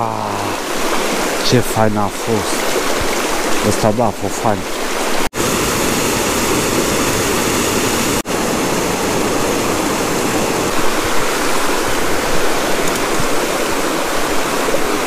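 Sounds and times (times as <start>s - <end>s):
river rushing over stones: 0.0s - 15.0s.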